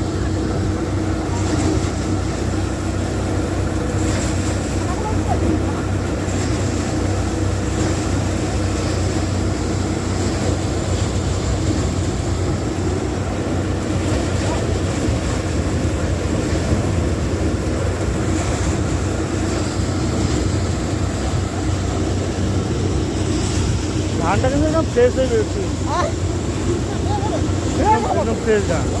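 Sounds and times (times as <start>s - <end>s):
thresher engine droning: 0.0s - 29.0s.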